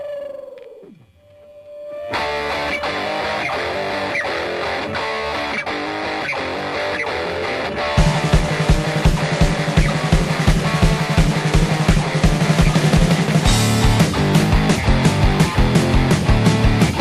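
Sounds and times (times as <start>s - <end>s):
rock music with electric guitar: 2.0s - 17.0s.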